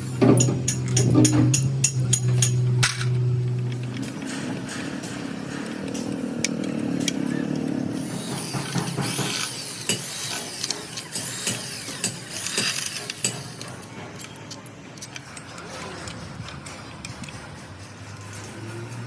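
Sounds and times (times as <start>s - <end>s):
quick metallic clicks and clinks: 0.3s - 19.0s.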